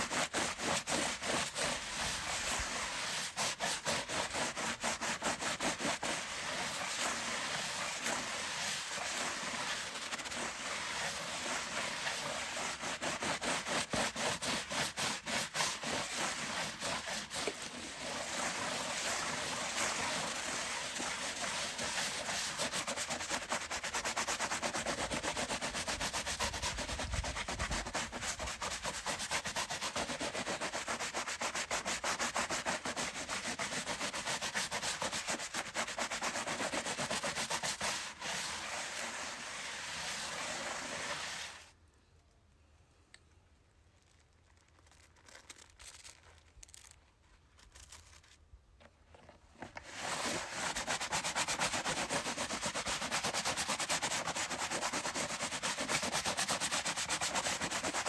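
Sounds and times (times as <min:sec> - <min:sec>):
brush scrubbing: 0:00.0 - 0:41.6, 0:49.6 - 0:58.0.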